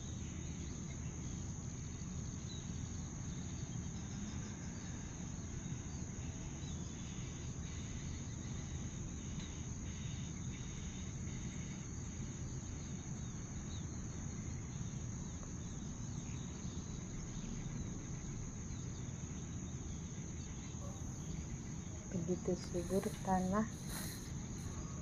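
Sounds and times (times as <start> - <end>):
crickets droning: 0.0 - 25.0.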